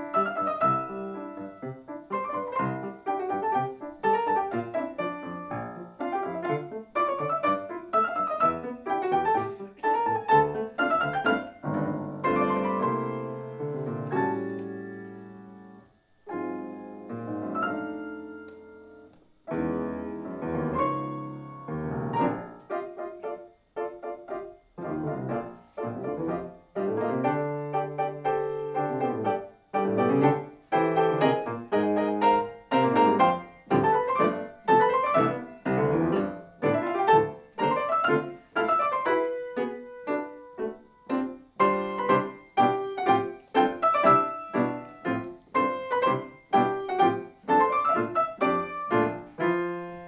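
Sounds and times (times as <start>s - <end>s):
piano duet: 0.0s - 50.0s.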